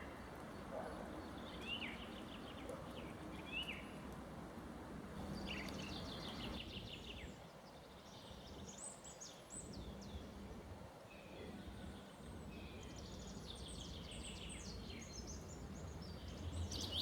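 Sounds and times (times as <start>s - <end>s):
songbirds singing: 0.0s - 4.0s, 5.2s - 10.4s, 11.1s - 17.0s.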